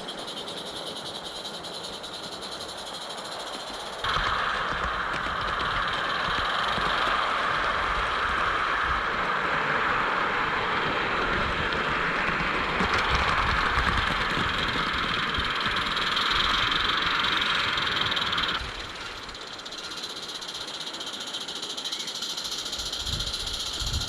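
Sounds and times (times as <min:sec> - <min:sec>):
toy train wheels rumbling on rails: 0:00.0 - 0:24.0.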